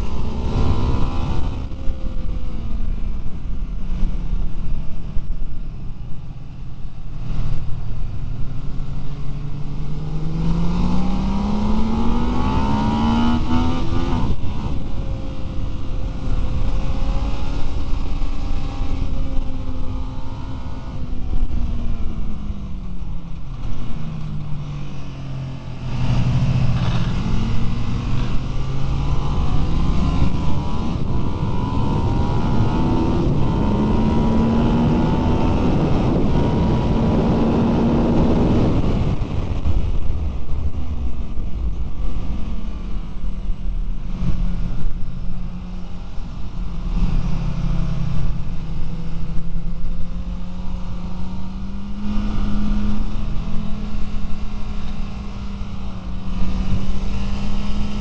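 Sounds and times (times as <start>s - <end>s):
wind rush over microphone: 0.0s - 58.0s
motorcycle engine revving: 8.2s - 22.8s, 23.4s - 40.9s, 41.8s - 58.0s.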